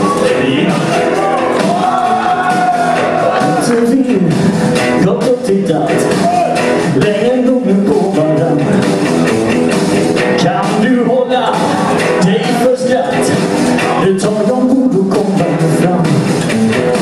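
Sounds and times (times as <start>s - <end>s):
man singing: 0.0s - 9.0s, 10.3s - 16.9s
electric guitar: 0.0s - 17.0s.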